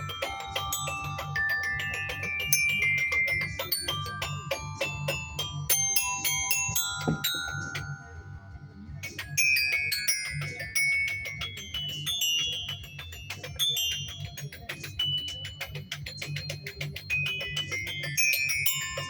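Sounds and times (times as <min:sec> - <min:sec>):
high ringing mallet notes: 0:00.0 - 0:19.0
pulsing low beat: 0:00.0 - 0:19.0.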